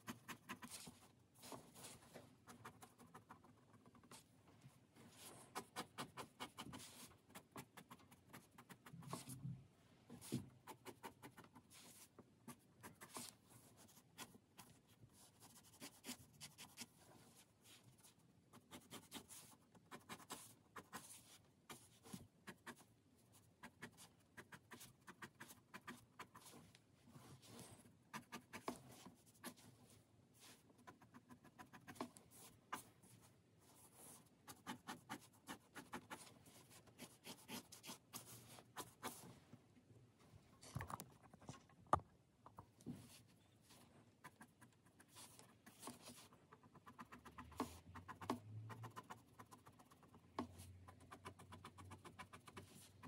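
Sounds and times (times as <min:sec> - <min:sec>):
marker pen scratching on paper: 0:00.0 - 0:04.3, 0:05.1 - 0:09.5, 0:10.2 - 0:29.7, 0:30.4 - 0:39.3, 0:44.1 - 0:53.0.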